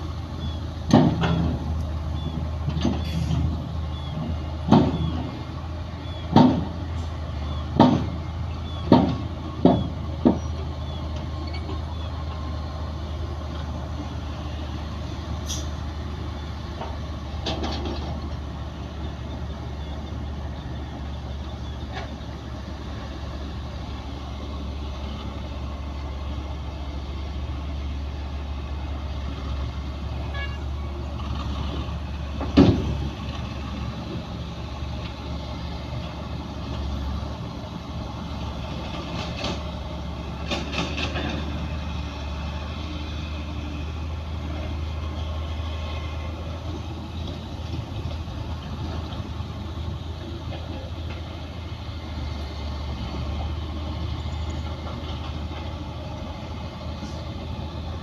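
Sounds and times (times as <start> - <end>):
diesel machinery droning: 0.0 - 58.0.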